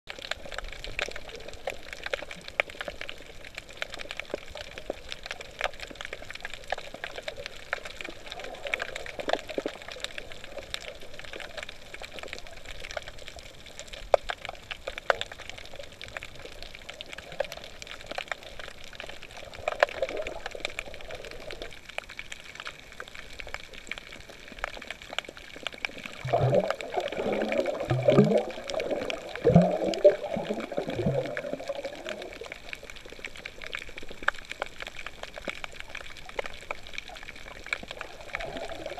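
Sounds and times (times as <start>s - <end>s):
gurgling bubbles: 0.1s - 38.9s.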